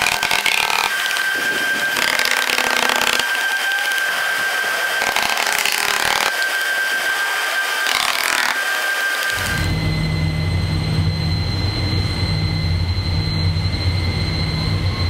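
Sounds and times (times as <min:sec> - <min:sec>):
mechanical noise with whine: 0:00.0 - 0:15.0
rushing swells: 0:00.0 - 0:15.0.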